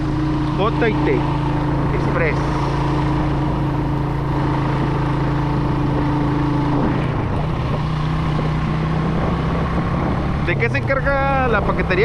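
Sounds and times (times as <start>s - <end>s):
motorcycle engine running: 0.0s - 12.0s
rush of noise: 0.0s - 12.0s.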